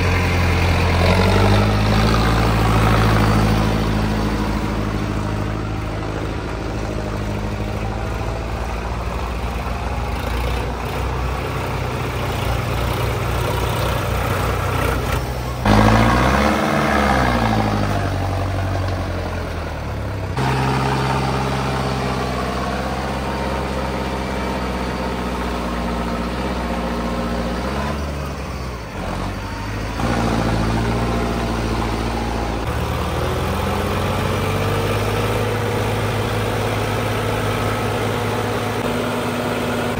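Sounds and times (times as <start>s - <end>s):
engine revving: 0.0s - 39.9s
tractor diesel engine running: 0.0s - 39.9s.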